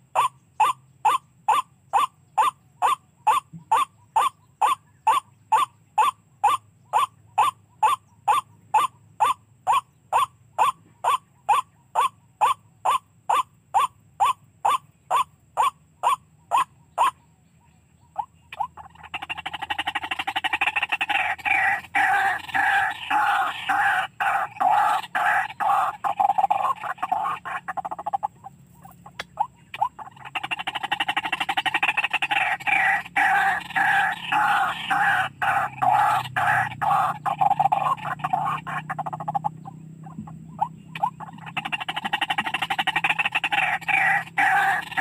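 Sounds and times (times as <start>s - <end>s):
harsh croaking bird calls: 0.0s - 45.0s.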